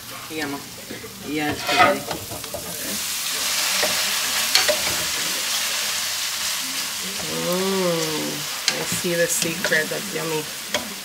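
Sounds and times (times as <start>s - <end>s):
sauce sizzling in a frying pan: 0.0s - 11.0s.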